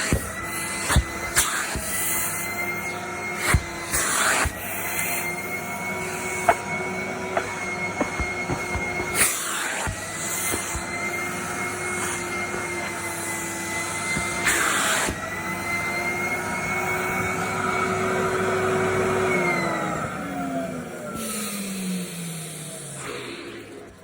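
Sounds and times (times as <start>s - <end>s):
suction noise: 0.0s - 19.6s
vacuum cleaner motor whine: 0.0s - 24.0s.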